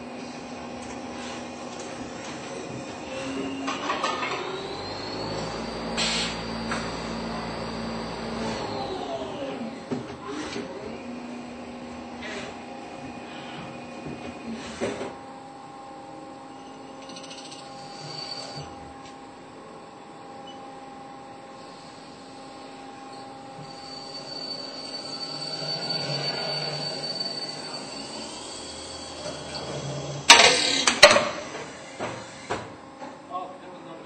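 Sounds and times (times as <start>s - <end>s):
lathe machine hum with whining: 0.0s - 33.3s.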